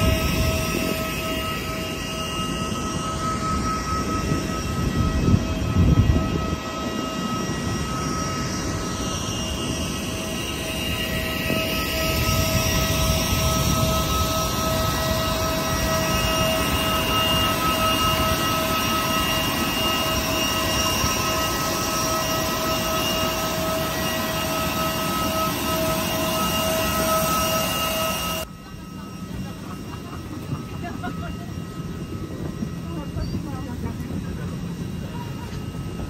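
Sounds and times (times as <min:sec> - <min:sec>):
jet turbine whining: 0:00.0 - 0:36.0.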